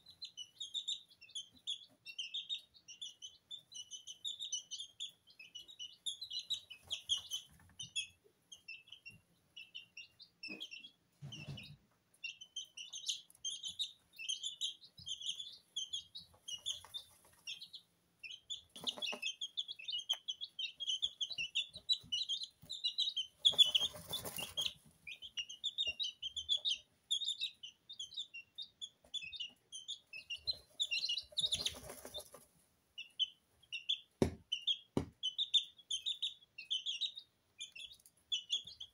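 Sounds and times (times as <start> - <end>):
chicks scratching in feed: 0.0 - 34.0
chicks peeping: 0.0 - 38.9.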